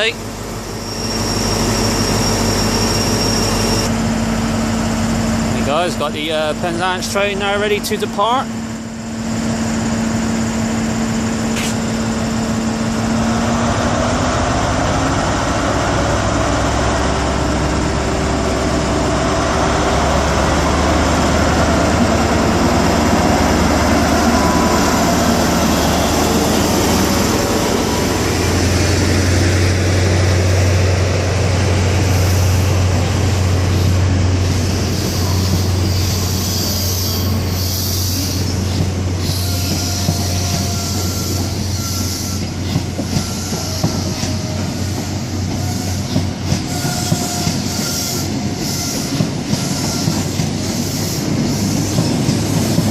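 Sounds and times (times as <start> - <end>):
diesel train engine powering up: 0.0 - 52.9.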